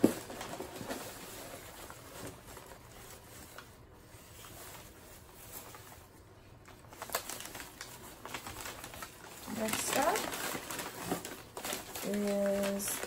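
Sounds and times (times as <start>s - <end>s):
paper packing rustling and crinkling: 0.0s - 13.0s.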